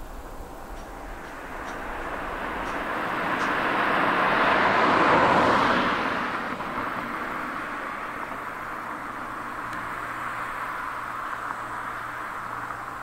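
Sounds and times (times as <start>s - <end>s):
vehicle driving past: 0.6s - 13.0s.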